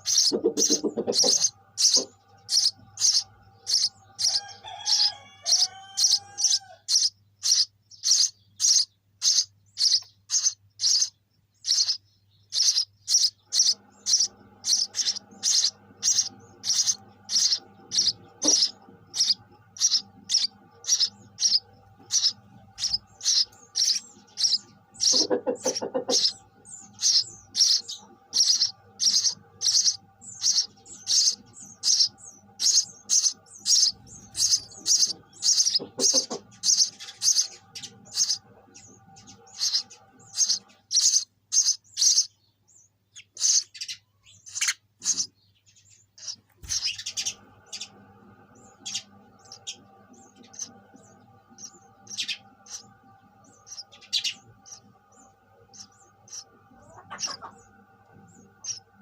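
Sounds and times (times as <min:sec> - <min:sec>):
sparrow chirping: 0:00.0 - 0:59.0.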